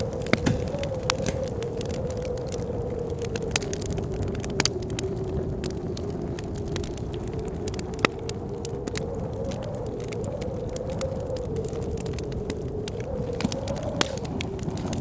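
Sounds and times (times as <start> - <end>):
howling blizzard wind: 0.0 - 15.0
wood fire crackling and popping: 0.0 - 15.0.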